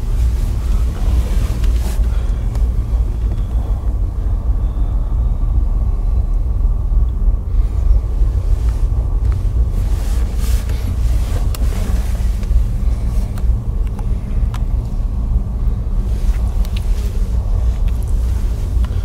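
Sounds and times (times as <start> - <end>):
low drone of ship engines: 0.0 - 19.0.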